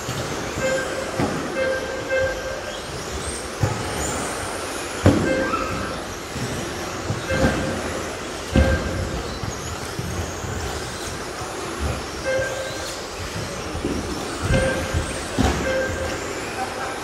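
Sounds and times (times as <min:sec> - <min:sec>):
tyre and drivetrain noise: 0:00.0 - 0:17.0.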